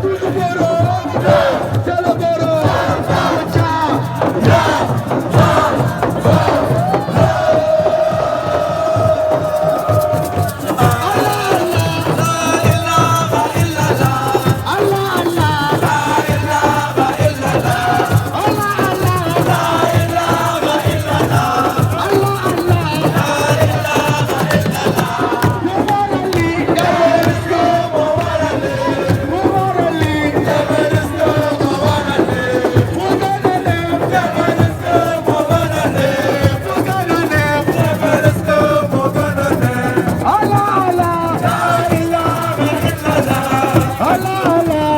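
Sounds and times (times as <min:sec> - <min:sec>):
crowd: 0:00.0 - 0:44.9
steady percussion: 0:00.0 - 0:44.9
voices singing: 0:00.0 - 0:44.9.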